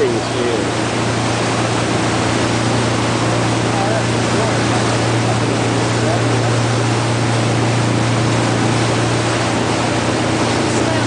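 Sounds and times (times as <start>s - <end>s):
ferry engine humming: 0.0s - 11.0s
wind and water hiss: 0.0s - 11.0s.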